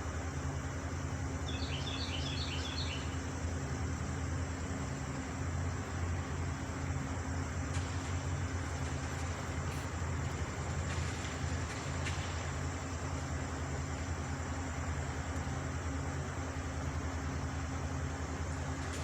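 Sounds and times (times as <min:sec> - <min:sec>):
constant hiss: 0:00.0 - 0:19.0
truck engine humming: 0:00.0 - 0:19.0.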